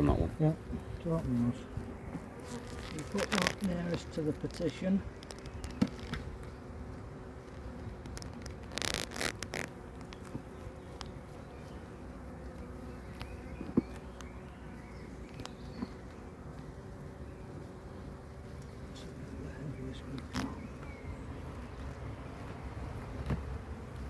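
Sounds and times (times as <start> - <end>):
honeybees humming: 0.0 - 24.0.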